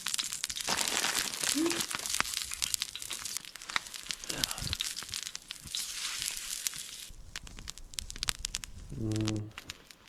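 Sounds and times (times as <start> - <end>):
campfire crackling and popping: 0.0 - 10.0
steady hiss: 0.0 - 10.0.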